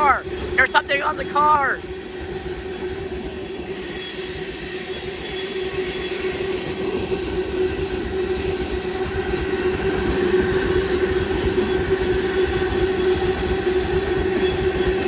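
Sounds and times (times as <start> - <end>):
freight train wheels rumbling on rails: 1.8 - 15.0.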